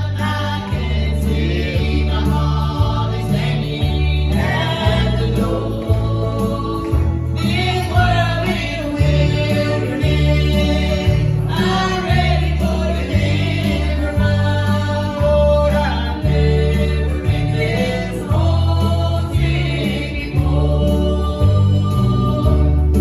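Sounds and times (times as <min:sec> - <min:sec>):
gospel group singing: 0:00.0 - 0:23.0
instrumental accompaniment: 0:00.0 - 0:23.0
strong bass line: 0:00.0 - 0:23.0.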